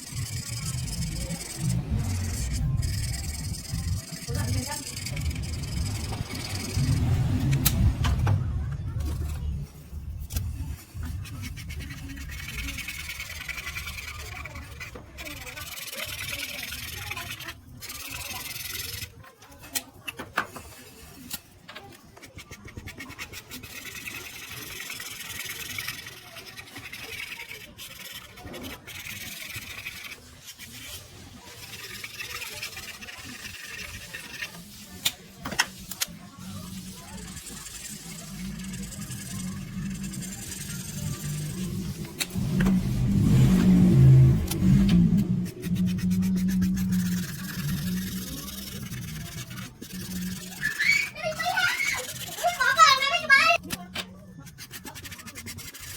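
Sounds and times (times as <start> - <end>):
pencil scratching on paper: 0.0 - 7.8, 9.0 - 43.8, 44.4 - 55.9.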